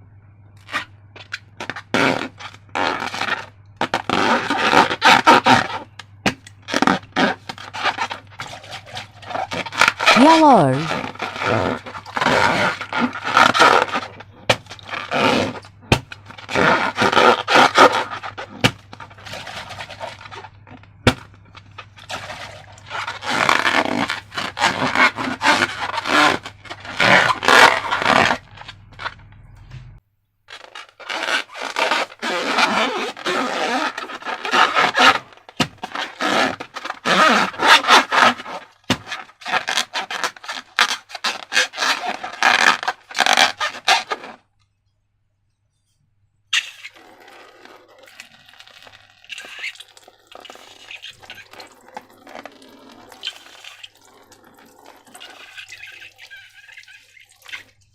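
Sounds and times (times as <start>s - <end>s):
slime scraped and stirred: 0.6s - 29.2s, 30.5s - 44.4s, 46.6s - 57.9s.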